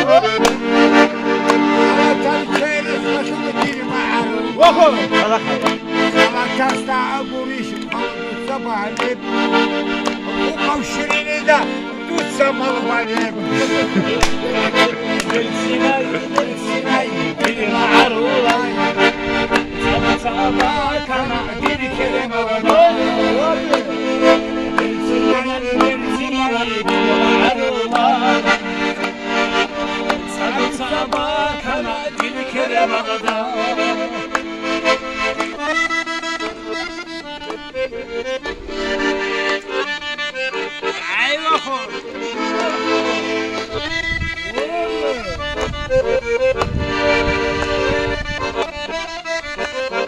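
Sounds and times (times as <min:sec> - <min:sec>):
accordion playing folk tune: 0:00.0 - 0:50.0
hand claps: 0:00.0 - 0:50.0.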